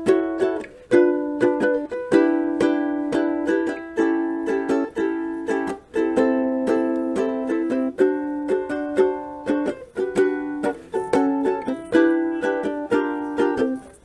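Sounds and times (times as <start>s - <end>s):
strummed string instrument chords: 0.0s - 14.0s.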